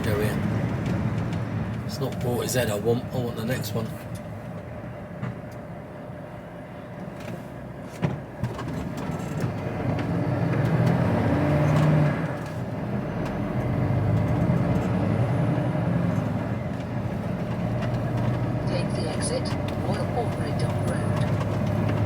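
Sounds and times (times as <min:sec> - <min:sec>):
truck diesel engine from cab: 0:00.0 - 0:22.0.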